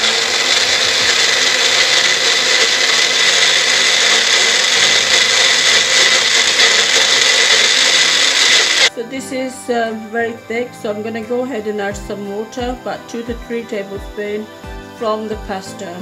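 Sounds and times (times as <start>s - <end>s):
blender motor whining: 0.0s - 8.9s, 11.5s - 16.0s.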